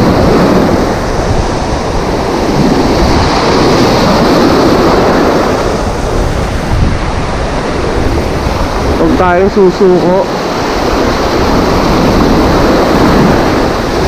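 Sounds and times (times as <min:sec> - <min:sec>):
sea surf breaking: 0:00.0 - 0:14.0
wind rumble on microphone: 0:00.0 - 0:14.0.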